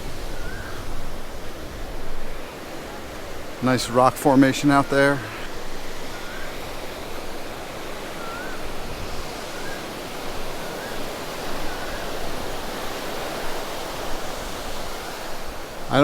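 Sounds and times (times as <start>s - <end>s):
sea surf breaking on beach: 0.0s - 16.0s.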